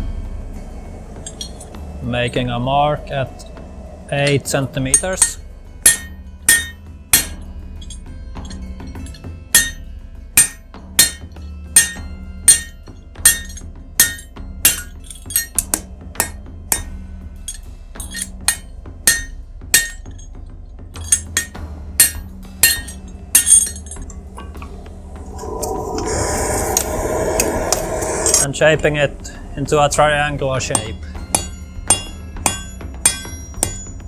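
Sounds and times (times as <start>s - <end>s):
hammer striking steel on anvil: 1.2s - 20.3s, 21.0s - 26.1s, 30.6s - 34.0s.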